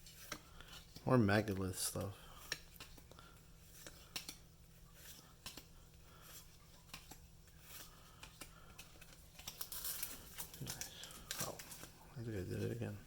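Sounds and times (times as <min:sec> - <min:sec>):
cards clicking and sliding: 0:00.0 - 0:12.0
low steady hum: 0:00.0 - 0:13.0.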